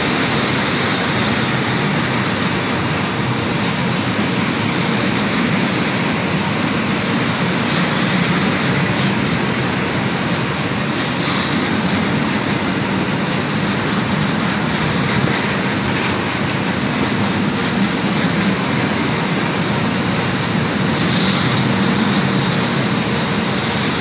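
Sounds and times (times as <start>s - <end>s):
freight train wheels rumbling on rails: 0.0s - 24.0s.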